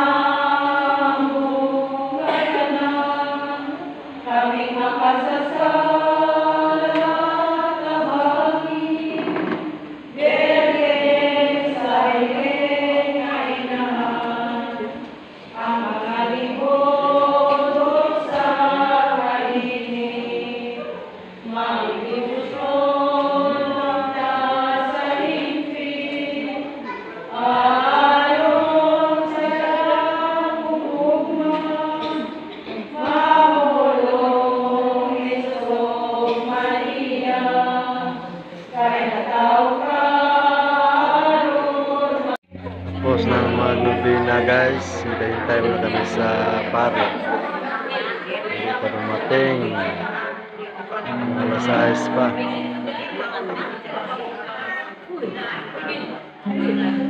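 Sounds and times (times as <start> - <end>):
congregation chanting in unison: 0.0 - 54.8, 55.7 - 57.0.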